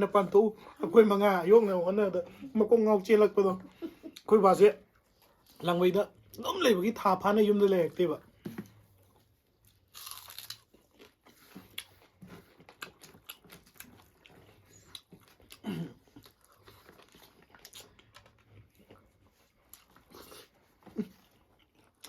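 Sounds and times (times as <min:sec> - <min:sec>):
chewing and crunching food: 0:00.0 - 0:22.0.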